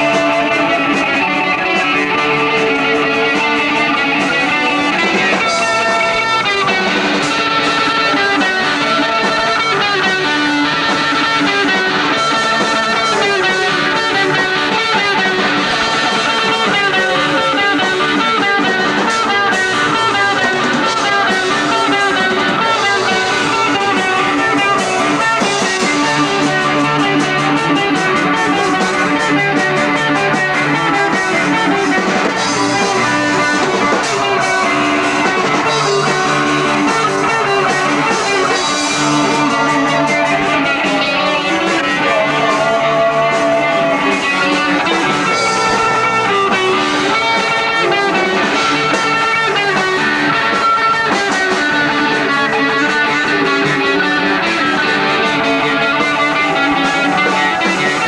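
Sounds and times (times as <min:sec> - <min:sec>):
electric guitar: 0:00.0 - 0:58.0
keyboard: 0:00.0 - 0:58.0.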